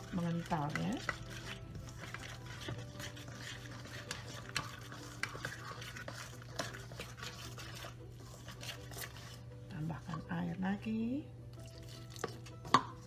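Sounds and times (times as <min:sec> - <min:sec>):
utensil scraping a bowl: 0:00.0 - 0:10.4, 0:11.6 - 0:13.0.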